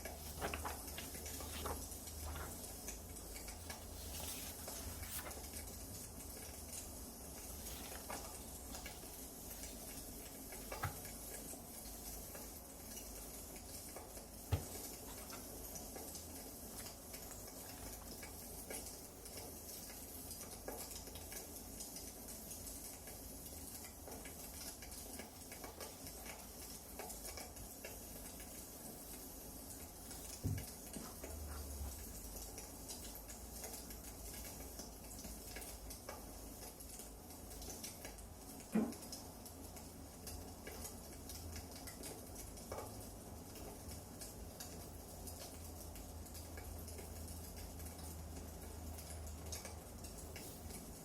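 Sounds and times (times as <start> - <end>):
wood fire crackling faintly: 0.0 - 51.0.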